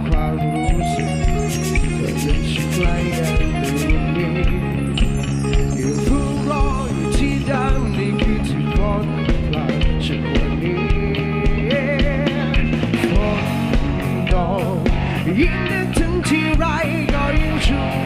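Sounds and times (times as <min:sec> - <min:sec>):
loud rock music: 0:00.0 - 0:18.0.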